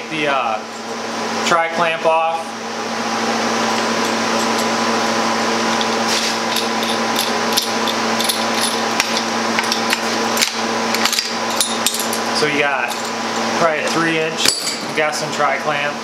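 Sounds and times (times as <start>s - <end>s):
chiller humming: 0.0s - 16.0s.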